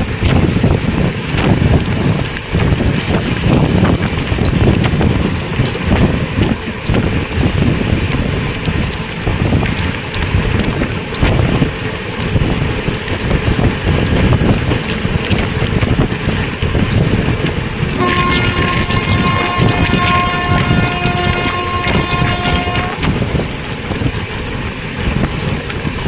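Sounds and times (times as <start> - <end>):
train rumbling on track: 0.0 - 26.0
wind buffeting microphone: 0.0 - 26.0.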